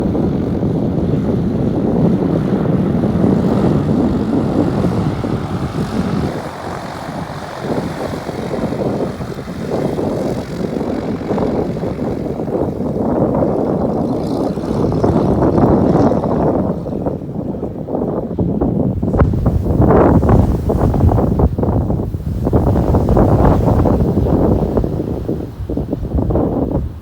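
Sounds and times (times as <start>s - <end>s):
airplane engine and propeller: 0.0s - 27.0s.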